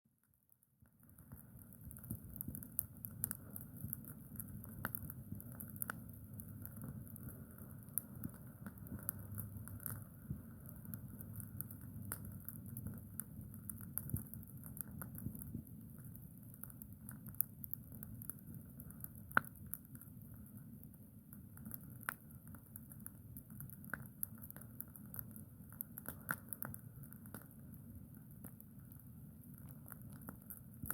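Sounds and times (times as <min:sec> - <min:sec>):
campfire crackling: 0:00.2 - 0:30.9.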